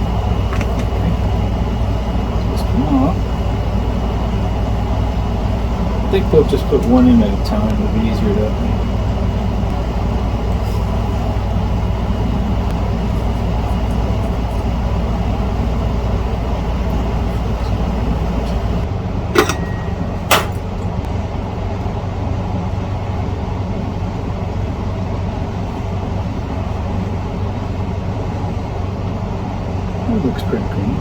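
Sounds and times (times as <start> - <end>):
machine hum and hiss: 0.0 - 31.0.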